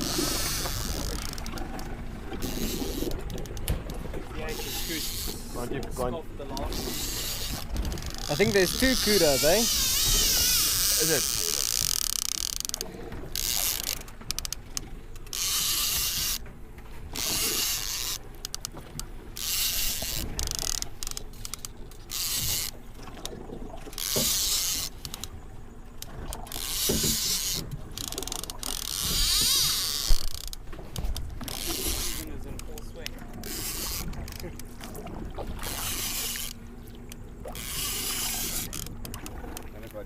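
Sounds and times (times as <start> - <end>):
fishing reel being cranked: 0.0 - 16.4, 17.1 - 18.8, 19.4 - 23.3, 23.9 - 25.4, 26.0 - 35.0, 35.6 - 40.0.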